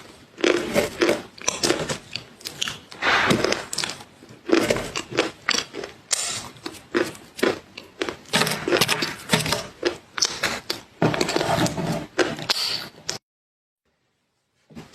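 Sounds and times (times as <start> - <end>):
chewing crunchy food: 0.0 - 13.2.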